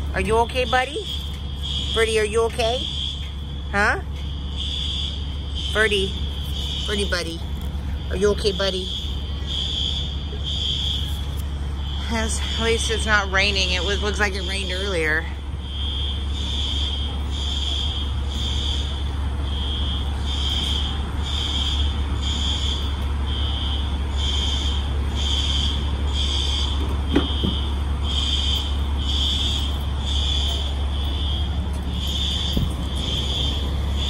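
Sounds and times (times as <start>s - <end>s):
fire alarm pulsing tone: 0.0s - 34.0s
steady low hum: 0.0s - 34.0s.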